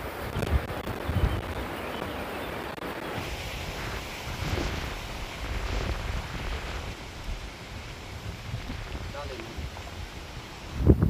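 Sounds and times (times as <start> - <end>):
small waterfall rushing: 0.0 - 11.0
wind buffeting microphone: 0.0 - 11.0.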